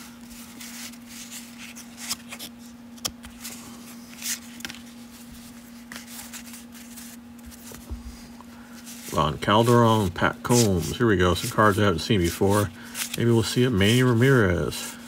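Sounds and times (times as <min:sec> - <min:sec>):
cards scraping and rustling: 0:00.0 - 0:15.0.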